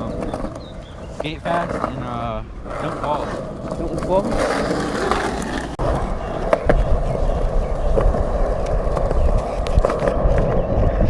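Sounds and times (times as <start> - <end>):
skateboard wheels rolling on pavement: 0.0 - 11.0.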